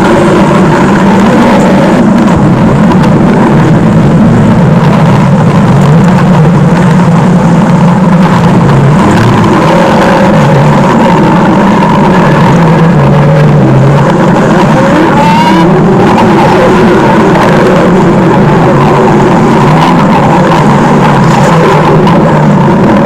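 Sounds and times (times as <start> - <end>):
stomach growling: 0.0 - 23.0.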